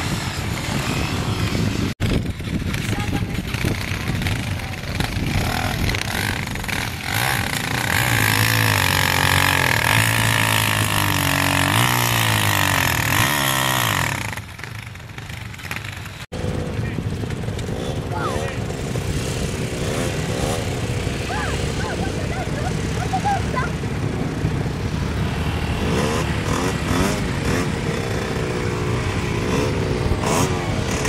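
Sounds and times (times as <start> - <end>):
dirt bike engines running: 0.0 - 31.0
dirt bike revving: 0.0 - 31.0.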